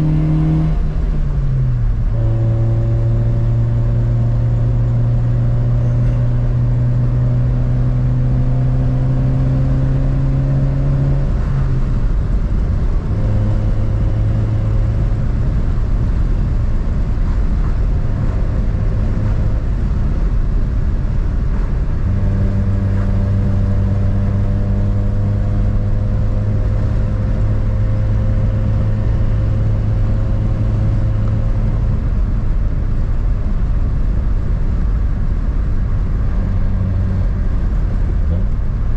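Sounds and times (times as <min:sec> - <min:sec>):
car engine drone: 0:00.0 - 0:38.9
road and tyre rumble: 0:00.0 - 0:38.9.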